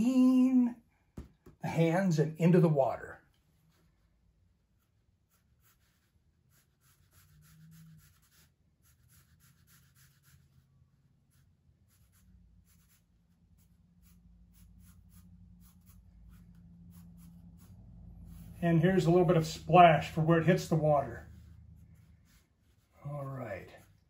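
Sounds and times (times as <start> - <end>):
pencil sketching on paper: 4.6 - 24.0.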